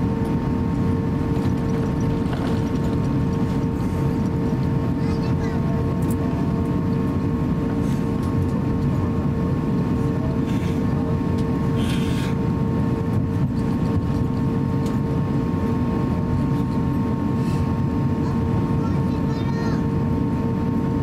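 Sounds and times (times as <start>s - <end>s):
aircraft cabin low rumble: 0.0s - 21.0s
thin steady engine whine: 0.0s - 21.0s.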